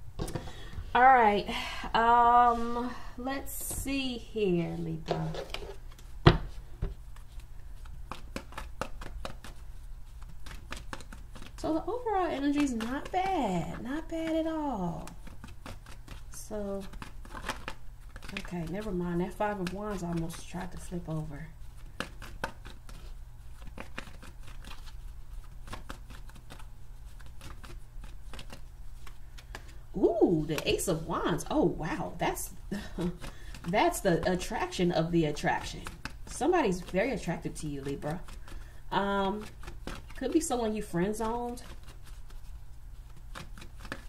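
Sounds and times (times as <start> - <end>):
steady low hum: 0.0 - 44.0
cards being shuffled: 4.6 - 44.0.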